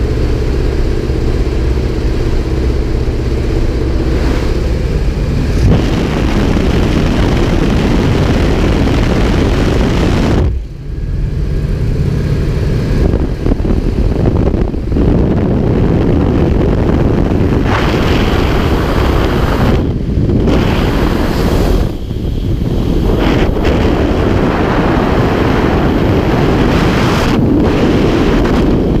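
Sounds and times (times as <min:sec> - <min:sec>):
propeller aircraft engine: 0:00.0 - 0:29.0
wind buffeting microphone: 0:00.0 - 0:29.0
wind rush: 0:00.0 - 0:29.0.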